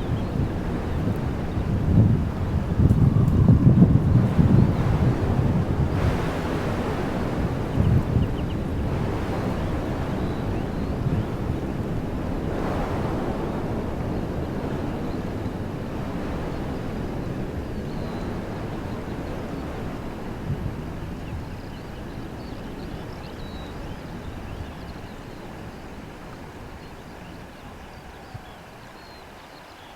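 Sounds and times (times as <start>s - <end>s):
wind blowing through trees: 0.0s - 29.9s.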